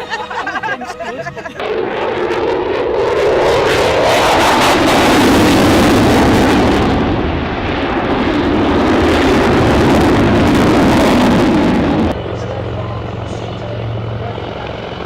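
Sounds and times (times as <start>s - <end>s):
aircraft engine flying overhead: 0.0s - 15.0s.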